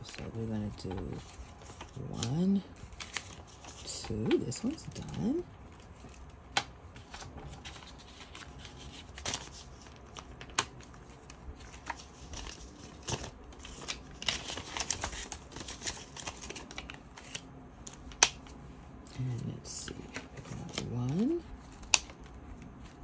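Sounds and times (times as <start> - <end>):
paper banknotes rustling: 0.0 - 18.6, 19.2 - 23.0.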